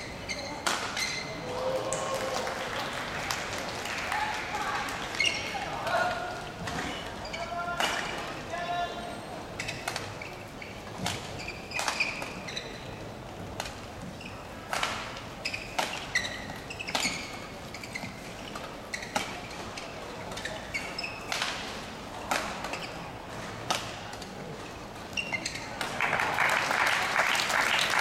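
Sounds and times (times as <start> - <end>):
court shoes squeaking: 0.0 - 1.5, 3.2 - 26.2.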